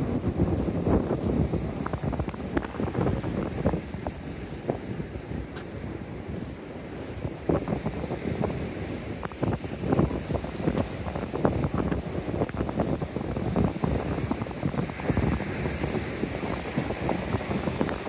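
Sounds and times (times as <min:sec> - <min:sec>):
surf breaking on pebble shore: 0:00.0 - 0:18.0
wind buffeting microphone: 0:00.0 - 0:18.0.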